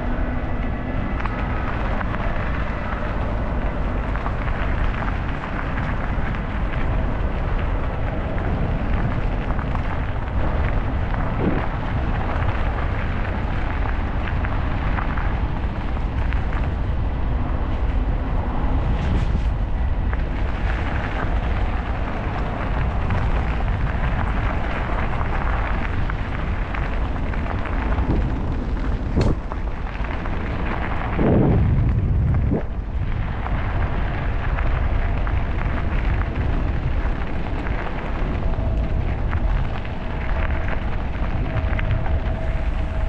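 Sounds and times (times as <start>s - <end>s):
low rumble: 0.0s - 43.0s
wind buffeting microphone: 0.0s - 43.0s.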